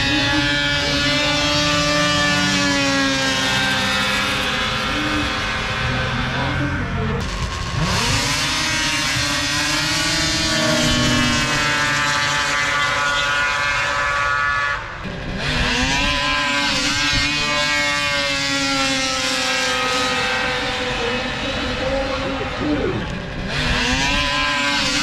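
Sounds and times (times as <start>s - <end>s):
snowmobile engines whining: 0.0s - 25.0s.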